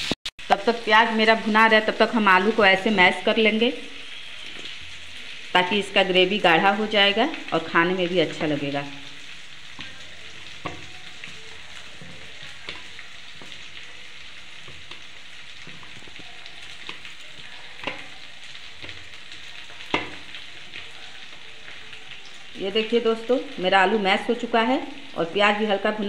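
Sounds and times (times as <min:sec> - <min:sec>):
onions sizzling in oil: 0:00.0 - 0:26.0.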